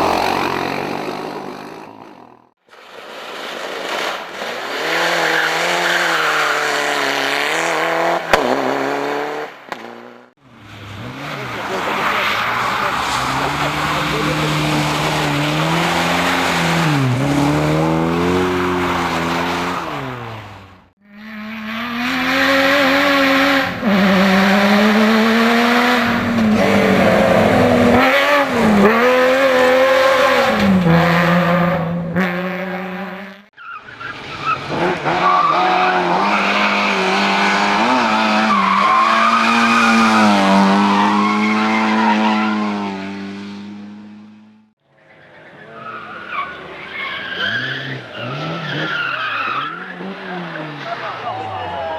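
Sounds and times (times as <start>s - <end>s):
race car engines revving: 0.0s - 2.5s, 3.7s - 51.9s.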